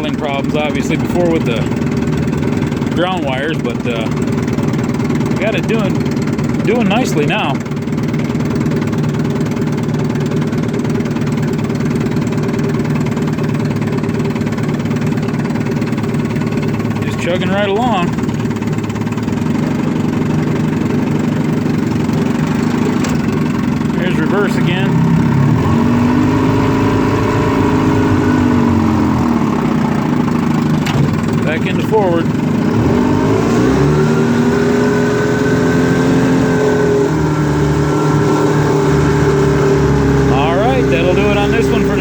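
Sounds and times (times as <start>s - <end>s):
outboard motor idling: 0.0s - 42.0s.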